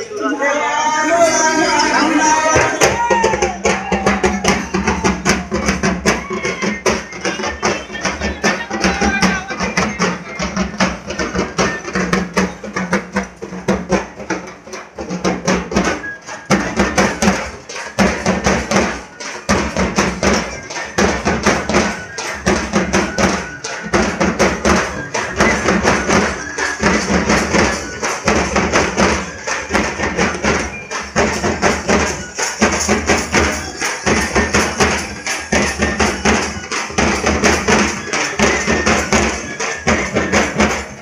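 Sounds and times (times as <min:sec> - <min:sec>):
large drums beaten with sticks: 0:02.1 - 0:41.0.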